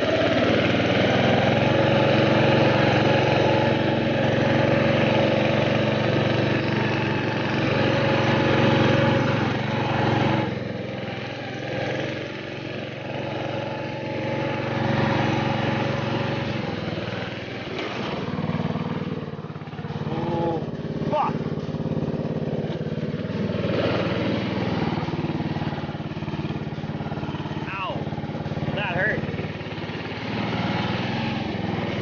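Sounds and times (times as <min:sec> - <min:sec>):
lawn tractor engine running: 0:00.0 - 0:32.0.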